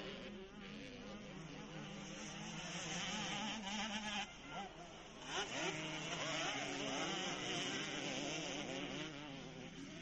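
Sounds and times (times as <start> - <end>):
motocross bikes revving: 0.0 - 10.0.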